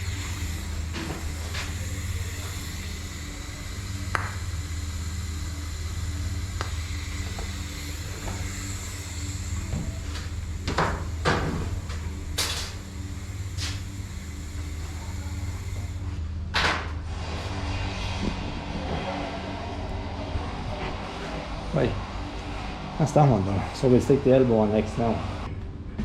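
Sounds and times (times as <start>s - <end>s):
low hum of running equipment: 0.0s - 26.0s.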